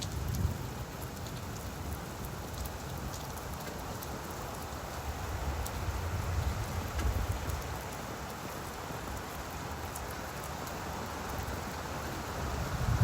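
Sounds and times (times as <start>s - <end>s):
water drips ticking: 0.0s - 5.8s, 6.5s - 12.3s
rain falling on leaves: 0.0s - 13.0s.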